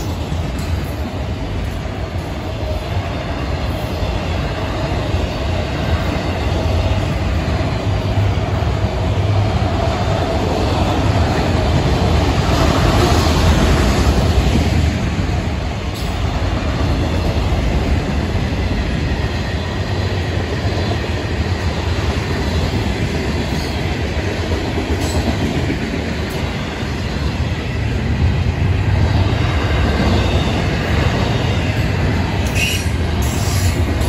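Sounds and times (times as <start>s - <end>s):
train cars clanking: 0.0s - 27.8s, 28.4s - 34.0s
train wheels rumbling on rails: 0.0s - 34.0s.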